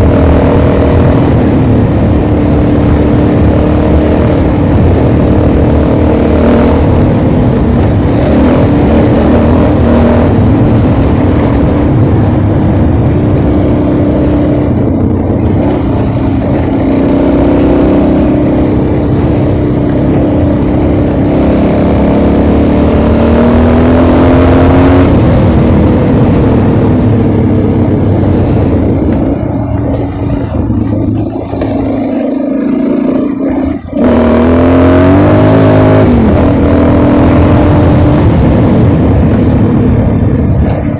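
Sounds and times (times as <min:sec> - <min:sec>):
motorcycle engine: 0:00.0 - 0:40.9
wind noise on microphone: 0:00.0 - 0:40.9.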